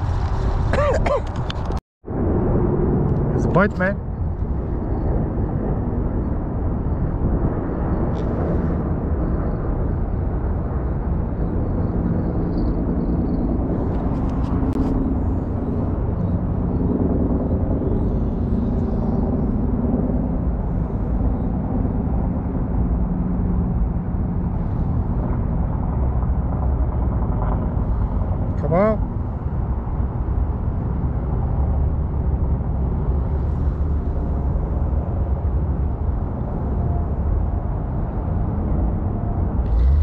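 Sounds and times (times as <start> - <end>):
loud low outdoor rumble: 0.0 - 40.0.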